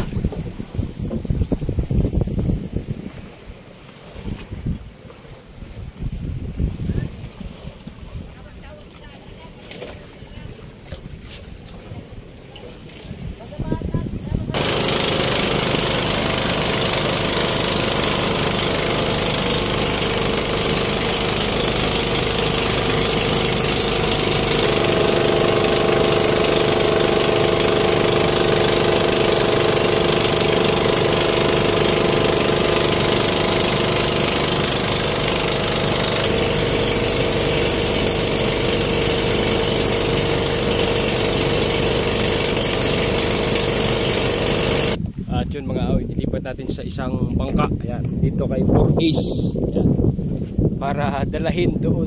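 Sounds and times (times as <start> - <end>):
boat engine running: 0.0 - 46.0
wind and water rushing: 0.0 - 52.0.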